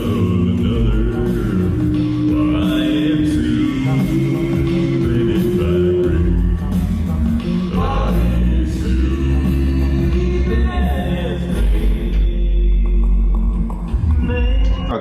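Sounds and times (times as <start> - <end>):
deep bass voice holding low notes: 0.0 - 13.5
a cappella group singing: 0.0 - 15.0.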